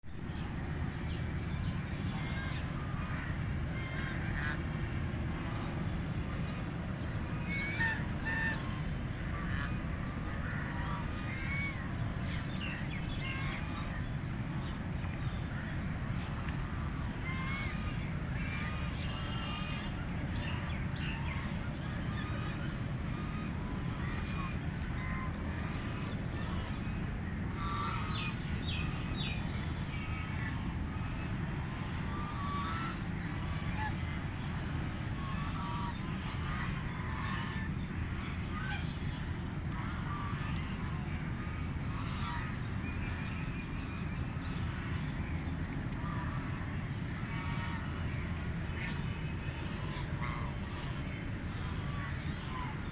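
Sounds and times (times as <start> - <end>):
low background rumble: 0.0 - 52.9
ducklings calling: 7.4 - 14.0, 14.6 - 45.2, 45.9 - 52.9.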